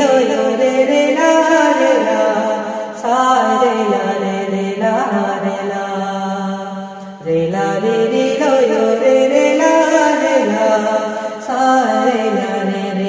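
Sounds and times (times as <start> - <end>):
person singing chant-like song: 0.0 - 13.0.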